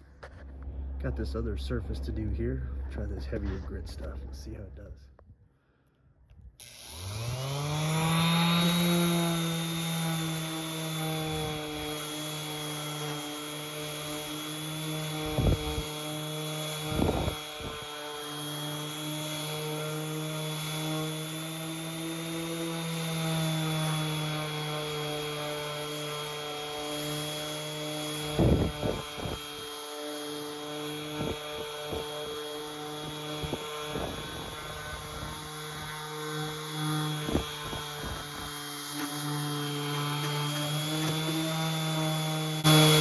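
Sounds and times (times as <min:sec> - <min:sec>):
orbit sander whining: 0:06.3 - 0:43.0.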